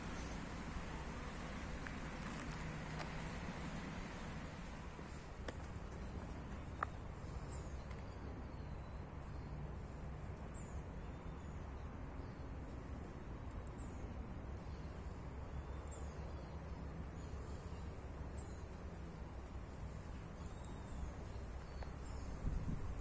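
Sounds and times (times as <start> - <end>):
small birds chirping: 1.6 - 23.0.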